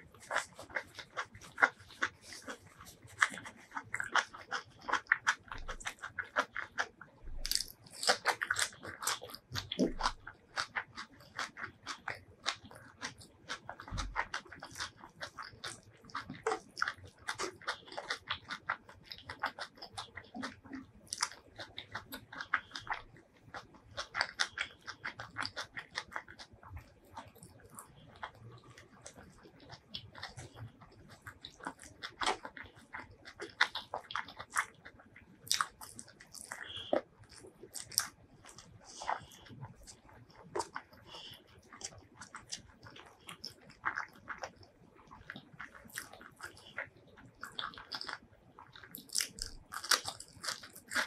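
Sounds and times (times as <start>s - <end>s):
person chewing and biting: 0.0s - 51.0s
wet mouth noises: 0.0s - 51.0s.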